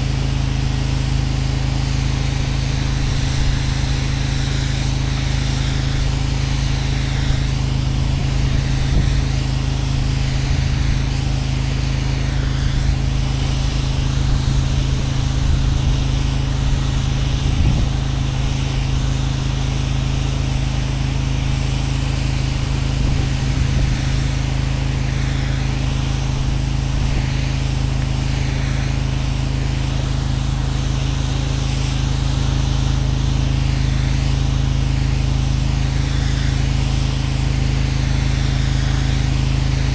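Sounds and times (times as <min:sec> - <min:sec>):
pressure washer engine running: 0:00.0 - 0:39.9
water spray hissing: 0:00.0 - 0:39.9.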